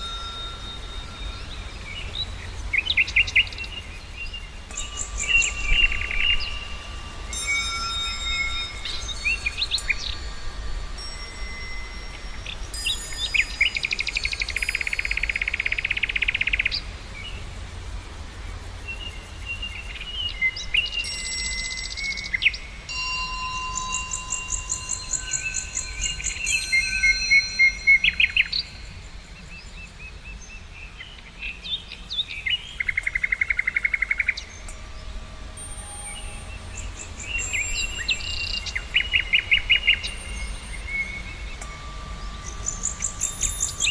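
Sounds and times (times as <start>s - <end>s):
songbirds singing and calling: 0.0s - 43.9s.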